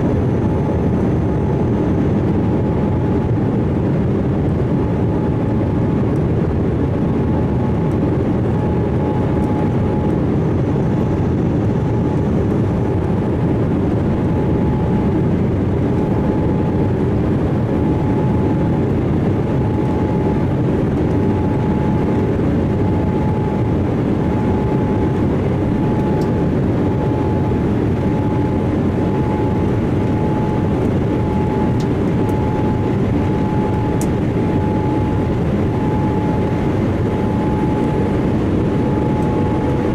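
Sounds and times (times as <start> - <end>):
airliner jet noise: 0.0 - 39.9
faint high whine: 6.9 - 39.9.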